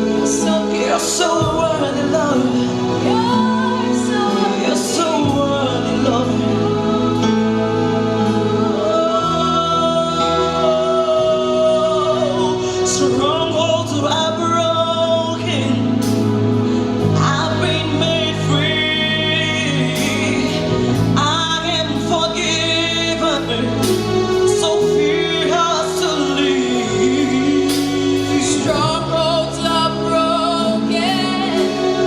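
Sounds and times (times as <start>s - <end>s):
instrumental backing: 0.0s - 32.0s
voices singing gospel song: 0.0s - 32.0s.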